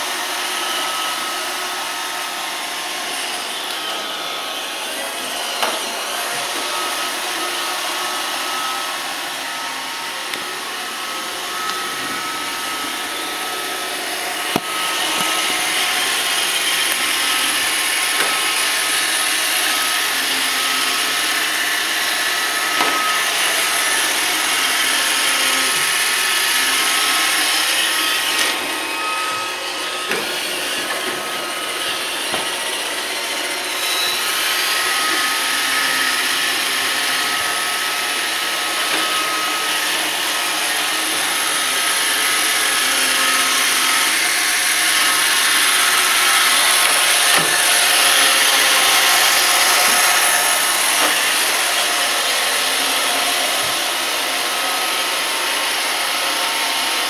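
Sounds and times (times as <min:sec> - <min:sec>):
robot vacuum whirring: 0:00.0 - 0:57.0.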